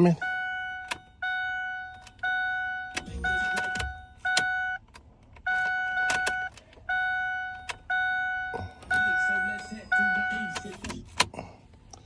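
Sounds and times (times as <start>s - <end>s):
dashboard warning chime: 0.0s - 11.1s.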